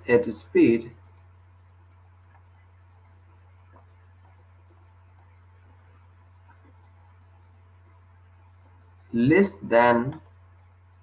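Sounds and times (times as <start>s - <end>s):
low electrical hum: 0.0s - 11.0s
faint ticks: 0.8s - 9.2s, 10.1s - 11.0s.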